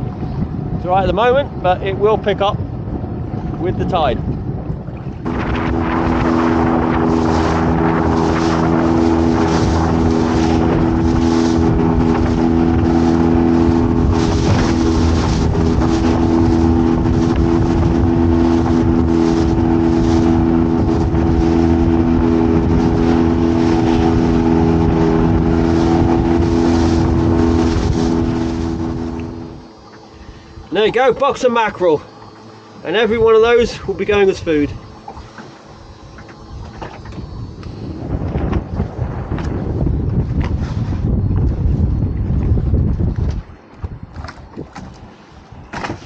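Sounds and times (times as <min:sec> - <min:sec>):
boat engine running: 0:00.0 - 0:46.0
wind and water rushing against hull: 0:00.0 - 0:46.0.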